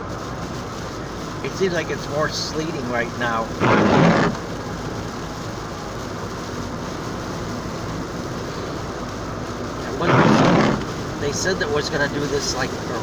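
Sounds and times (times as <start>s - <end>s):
car road noise at highway speed: 0.0s - 13.0s.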